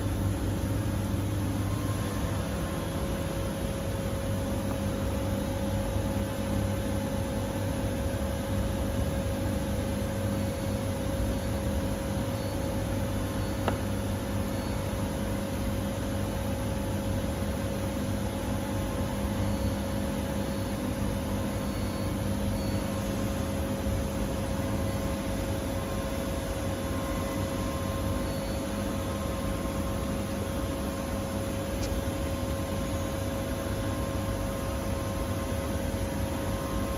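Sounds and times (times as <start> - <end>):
machine humming and hissing: 0.0 - 36.9.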